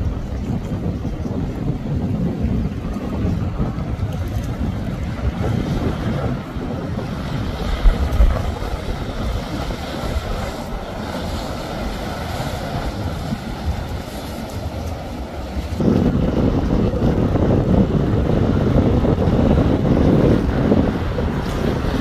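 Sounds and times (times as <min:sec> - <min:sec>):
rush of wake spray: 0:00.0 - 0:22.0
wind buffeting microphone: 0:00.0 - 0:22.0
yacht engine low drone: 0:00.0 - 0:22.0.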